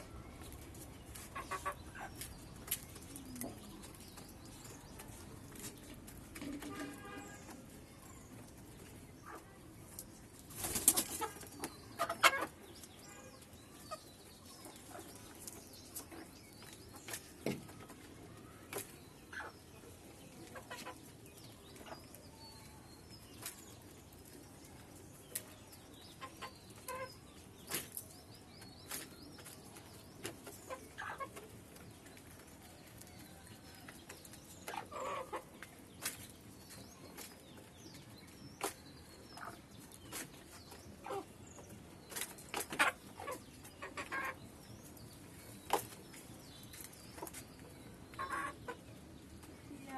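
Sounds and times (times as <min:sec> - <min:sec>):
chickens clucking: 0:00.0 - 0:49.5.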